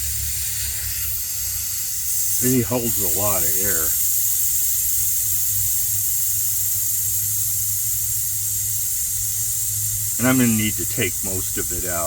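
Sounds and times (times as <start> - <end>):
air hissing out of tire valve: 0.0 - 12.0.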